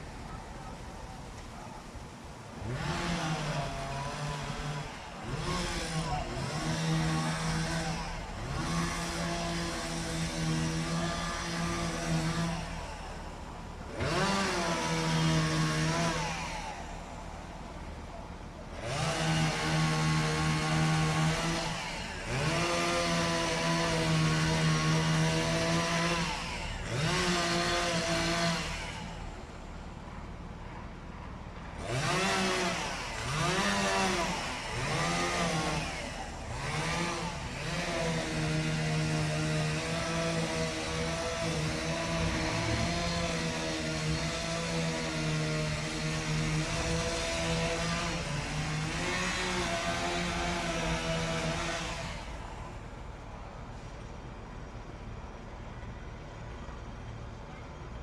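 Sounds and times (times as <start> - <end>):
chainsaw engine revving: 2.2 - 30.0, 31.6 - 53.8.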